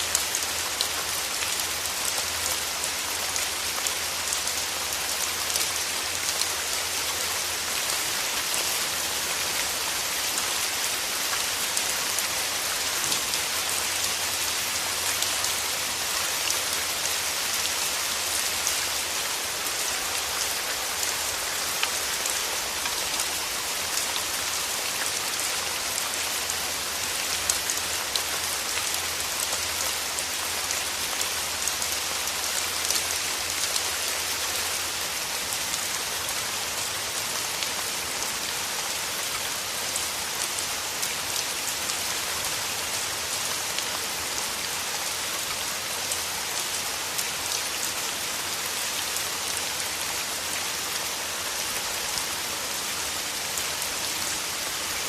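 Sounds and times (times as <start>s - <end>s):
rain falling through trees: 0.0s - 55.0s.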